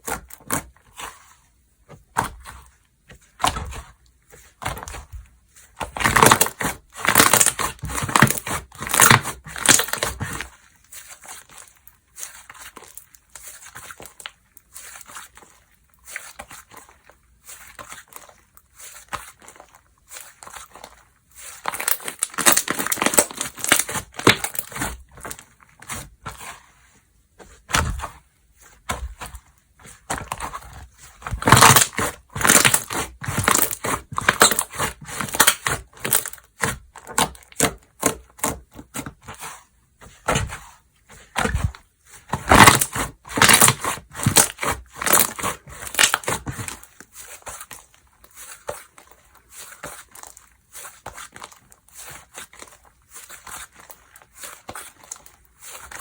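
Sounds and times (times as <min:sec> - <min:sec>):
slime squished by hand: 0:05.8 - 0:10.6, 0:11.2 - 0:26.6, 0:27.6 - 0:39.5, 0:40.1 - 0:56.0.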